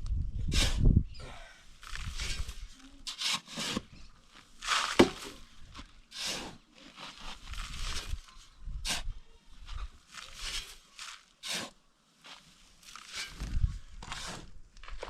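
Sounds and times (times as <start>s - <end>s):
rough scraping strokes: 1.6s - 14.6s.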